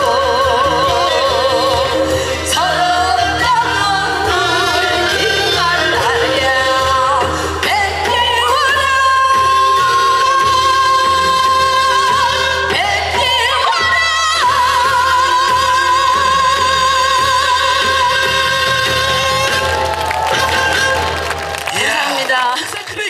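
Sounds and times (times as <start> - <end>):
woman singing with vibrato: 0.0 - 21.2.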